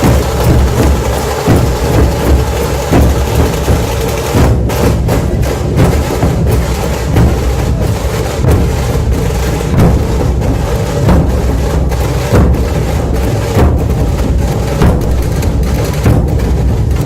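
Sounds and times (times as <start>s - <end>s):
dhol drums booming: 0.0s - 17.0s
sharp crackling drum strokes: 0.0s - 17.0s.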